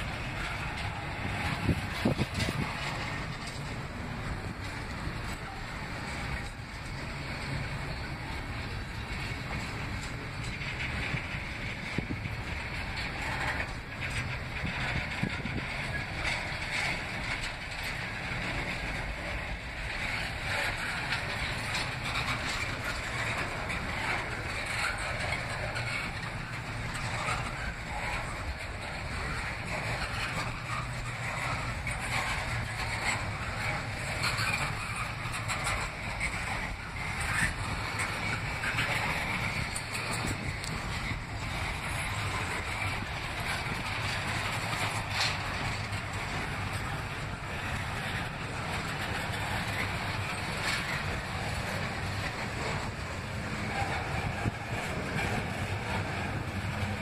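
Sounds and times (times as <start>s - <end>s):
freight train wheels on rails: 0.0s - 57.0s
train clicks: 0.0s - 57.0s.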